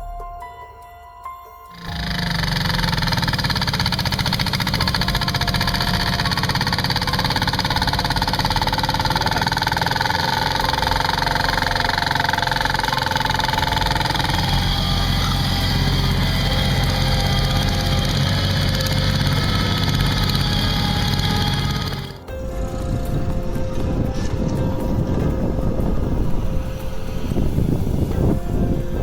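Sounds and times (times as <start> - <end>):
engine whine: 1.8 - 29.0
tractor diesel engine running: 1.8 - 29.0.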